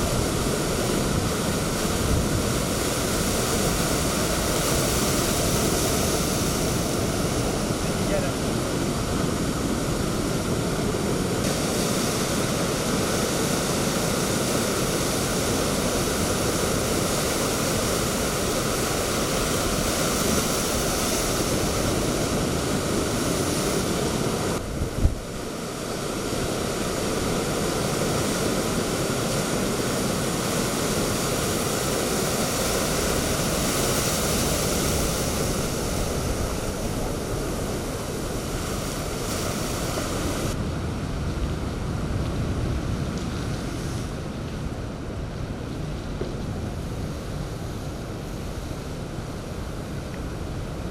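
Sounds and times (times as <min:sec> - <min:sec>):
pounding surf: 0:00.0 - 0:50.9
strong wind blowing: 0:00.0 - 0:50.9.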